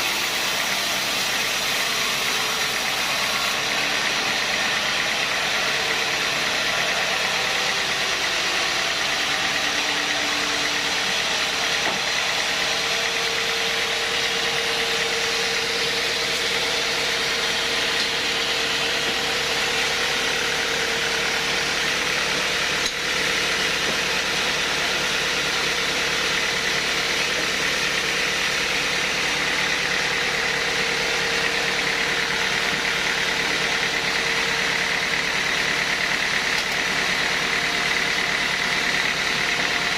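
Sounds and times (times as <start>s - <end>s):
machinery whine: 0.0s - 39.9s
sawmill machinery drone: 0.0s - 39.9s.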